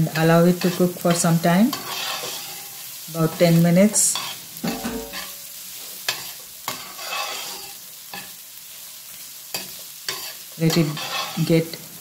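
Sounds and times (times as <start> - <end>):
oil sizzling: 0.0 - 12.0
metal spoon scraping a pan: 0.1 - 8.4, 9.5 - 11.8.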